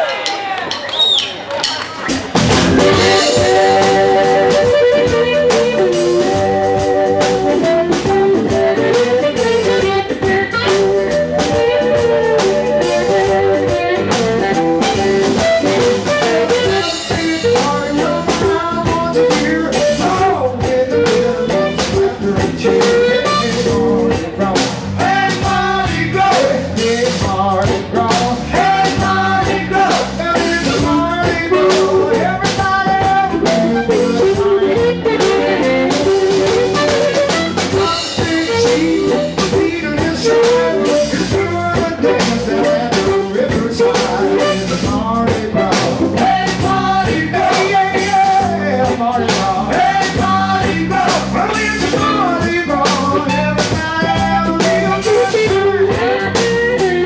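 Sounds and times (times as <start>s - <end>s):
live blues band playing: 0.1s - 57.0s
amplified harmonica lead: 2.4s - 26.9s, 28.5s - 57.0s.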